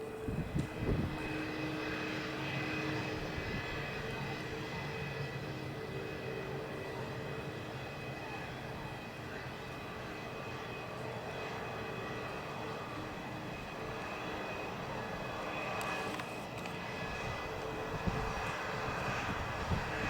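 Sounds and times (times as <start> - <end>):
jet engine whine and roar: 0.0 - 20.0.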